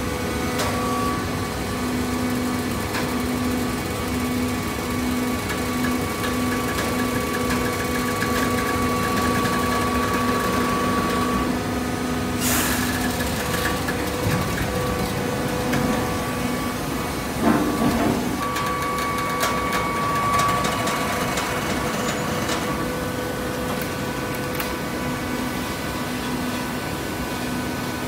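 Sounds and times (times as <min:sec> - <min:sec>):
high-pitched machine whine: 0:00.0 - 0:28.0.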